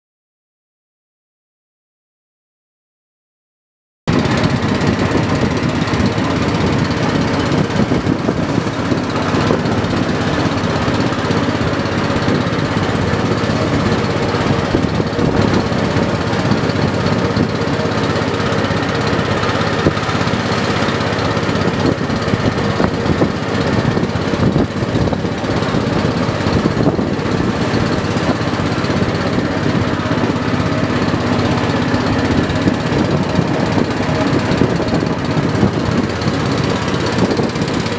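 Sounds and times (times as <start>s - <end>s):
boat engine running: 4.1s - 37.9s.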